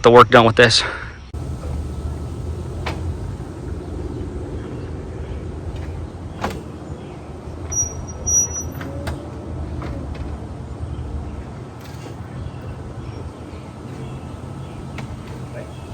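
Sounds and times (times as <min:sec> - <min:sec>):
excavator diesel engine running: 0:01.3 - 0:15.9.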